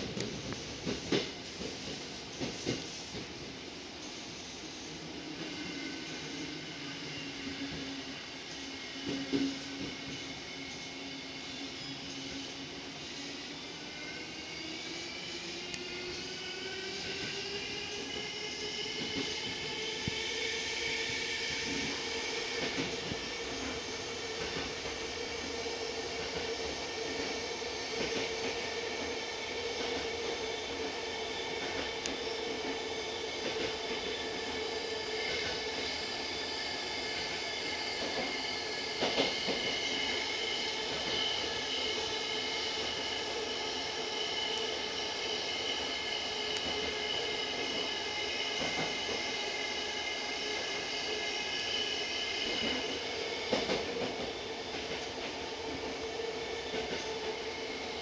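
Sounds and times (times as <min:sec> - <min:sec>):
wheels rumbling on rail: 0:00.0 - 0:12.9, 0:15.5 - 0:58.0.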